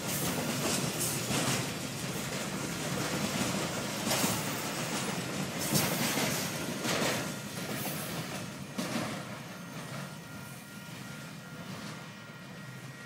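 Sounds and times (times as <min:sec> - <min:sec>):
train cars rolling past: 0:00.0 - 0:13.0.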